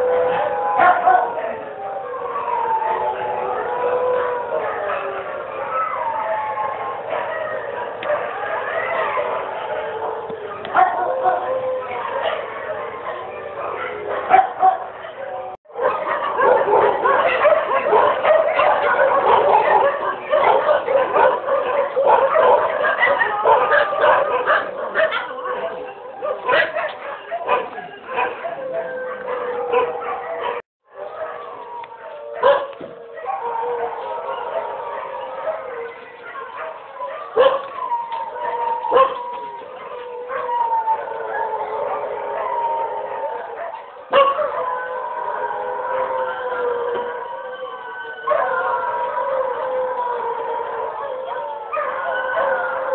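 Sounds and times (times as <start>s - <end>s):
dogs yipping and howling: 0.0s - 52.9s.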